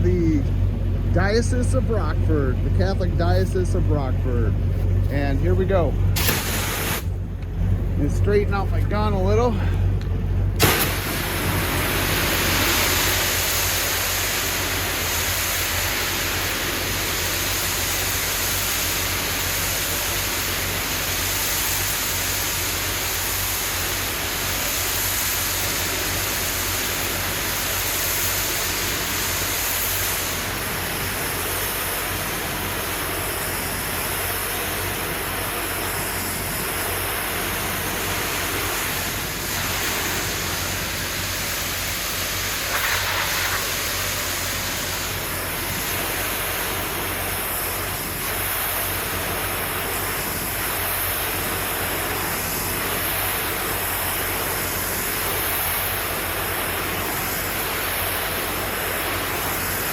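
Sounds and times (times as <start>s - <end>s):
pressure washer spraying concrete: 0.0s - 59.9s
steady low hum: 0.0s - 59.9s.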